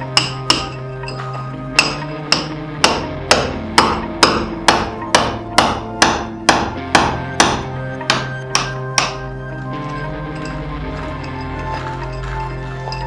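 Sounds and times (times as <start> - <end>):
hammer strikes with ring: 0.0 - 10.5.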